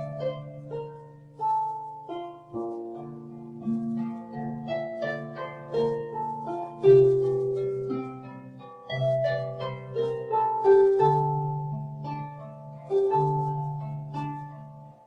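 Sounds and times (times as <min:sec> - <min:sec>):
calm harp music: 0:00.0 - 0:15.0.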